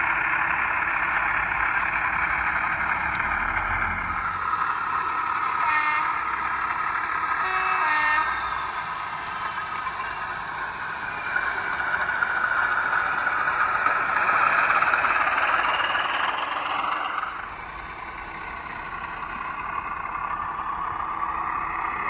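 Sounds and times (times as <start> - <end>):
locomotive engine sound from small speaker: 0.0 - 22.0.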